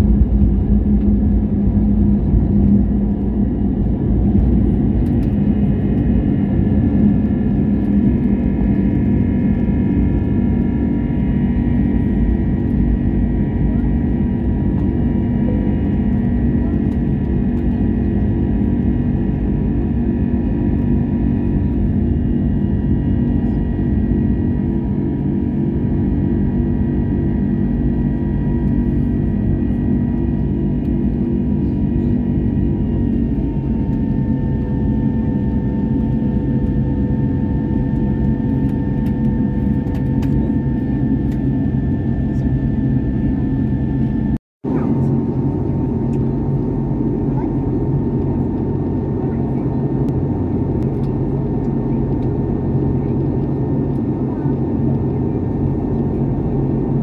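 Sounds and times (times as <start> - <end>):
airliner engine drone: 0.0 - 57.0.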